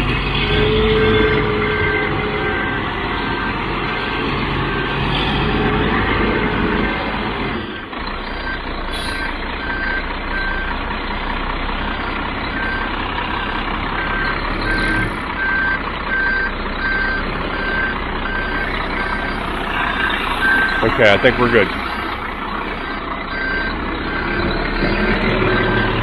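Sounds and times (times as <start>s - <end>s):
diesel truck engine running: 0.0s - 26.0s
backup alarm beeping: 0.3s - 10.8s, 12.4s - 13.0s, 14.0s - 26.0s.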